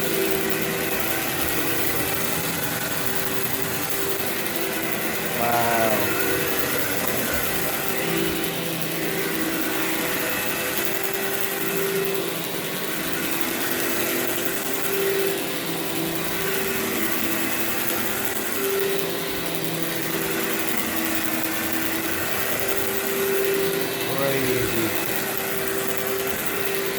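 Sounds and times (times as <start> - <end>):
vacuum cleaner on carpet: 0.0 - 26.9.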